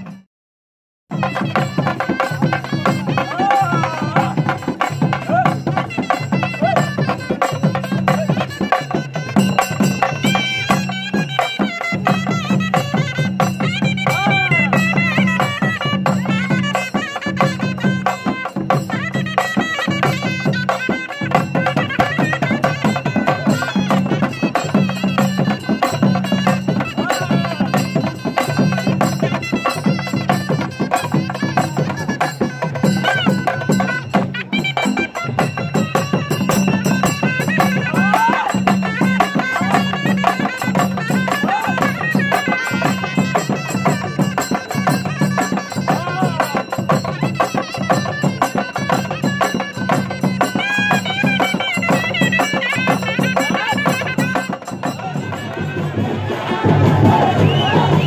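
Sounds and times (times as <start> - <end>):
percussion: 0.0 - 0.3, 1.1 - 58.0.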